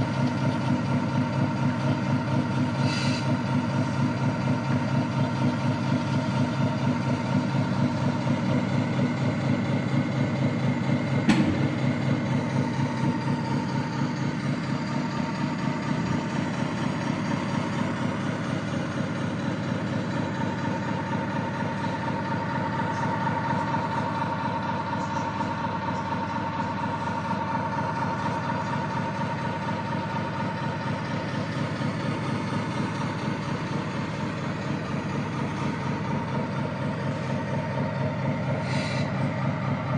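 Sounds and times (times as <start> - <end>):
model truck engine idling: 0.0 - 39.9.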